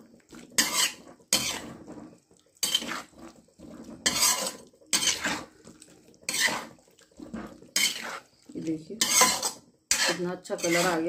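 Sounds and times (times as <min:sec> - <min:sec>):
metal spatula scraping iron pan: 0:00.6 - 0:05.5, 0:06.3 - 0:08.3, 0:09.0 - 0:11.0.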